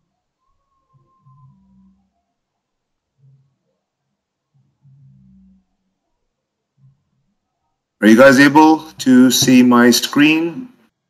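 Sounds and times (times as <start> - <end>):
faint low hum: 0.0 - 10.9.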